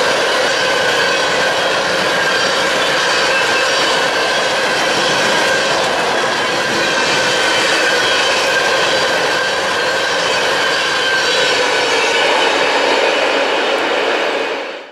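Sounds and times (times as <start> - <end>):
train wheels rattling on rail: 0.0 - 14.9.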